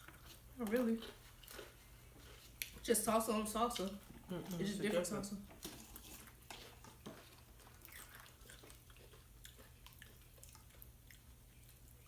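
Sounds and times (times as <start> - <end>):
person chewing chips: 0.0 - 4.9, 5.6 - 12.0.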